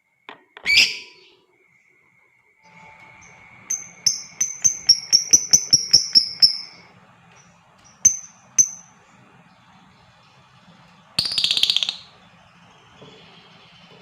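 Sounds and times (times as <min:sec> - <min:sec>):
faint steady high tone: 0:00.0 - 0:14.0
bird chirping: 0:00.6 - 0:01.9, 0:02.6 - 0:14.0.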